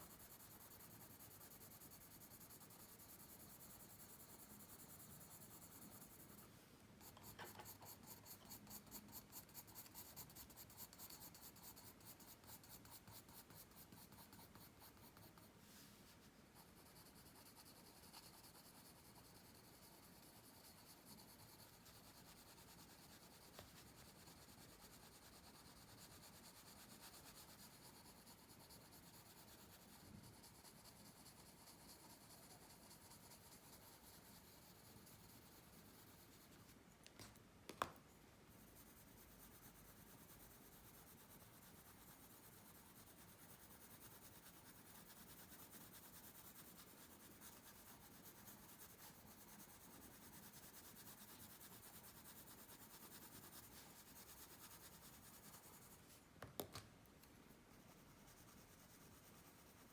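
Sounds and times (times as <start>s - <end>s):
pencil scratching on paper: 0.0s - 36.8s, 38.5s - 56.2s, 57.7s - 59.9s.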